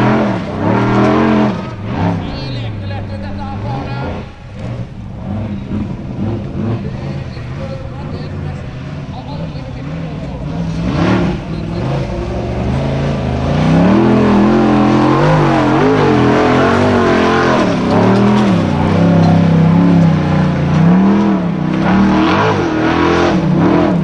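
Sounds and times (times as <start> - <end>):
race engine revving hard: 0.0 - 24.0.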